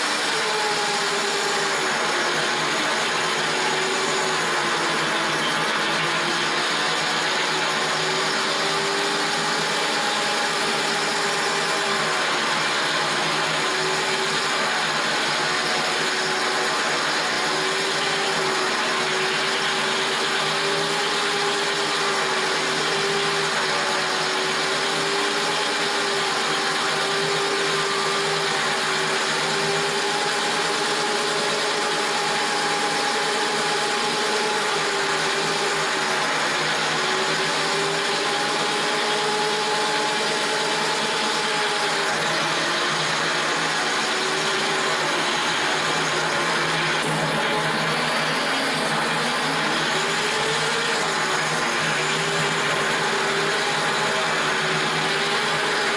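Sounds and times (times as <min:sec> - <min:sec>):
drill grinding through tile: 0:00.0 - 0:55.9
drill motor whine: 0:00.0 - 0:55.9.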